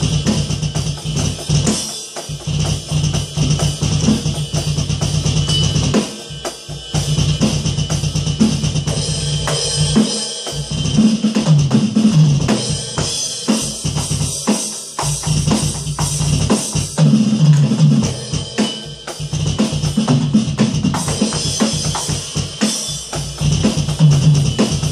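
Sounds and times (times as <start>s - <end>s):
electronic drum kit beat: 0.0s - 24.9s.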